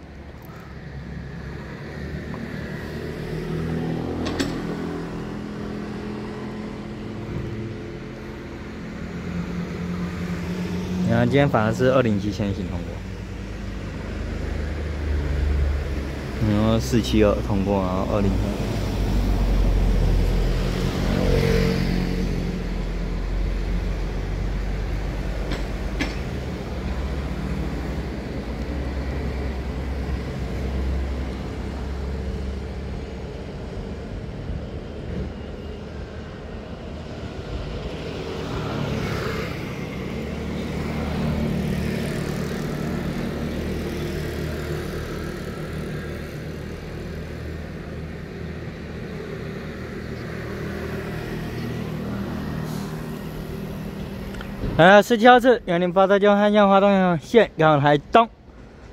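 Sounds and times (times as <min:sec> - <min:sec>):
vehicles passing: 0:00.0 - 0:58.9.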